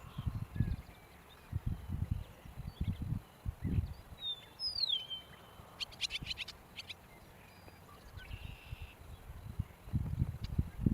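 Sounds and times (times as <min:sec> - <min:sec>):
meadowlark calling: 0:00.0 - 0:10.9.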